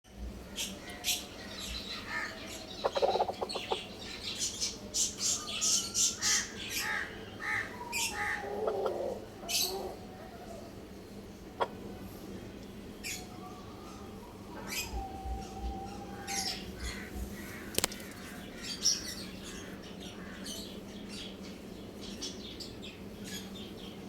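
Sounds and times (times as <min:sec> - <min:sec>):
birds chirping: 0:00.1 - 0:24.0.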